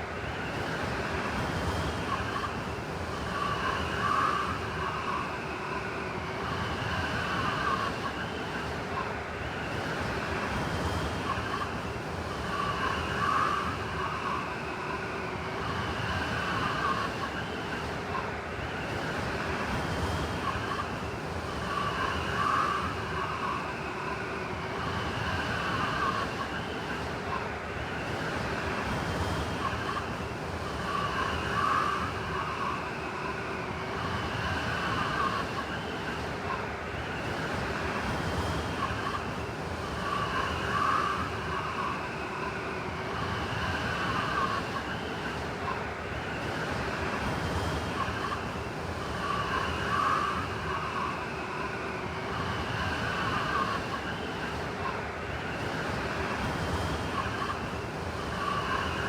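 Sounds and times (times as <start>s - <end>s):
blizzard wind whistling: 0.0s - 59.0s.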